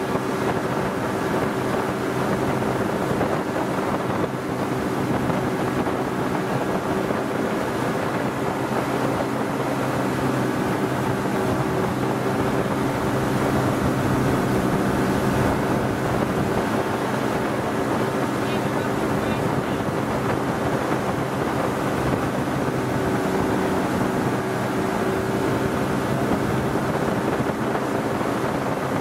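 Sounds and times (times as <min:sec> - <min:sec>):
churning wake rushing: 0:00.0 - 0:29.0
outboard motors running: 0:00.0 - 0:29.0
wind buffeting microphone: 0:00.0 - 0:29.0.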